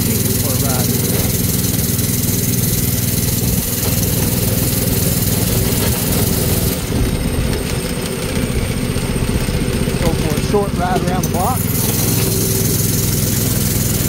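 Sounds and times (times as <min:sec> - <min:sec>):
go-kart engine running: 0:00.0 - 0:14.0.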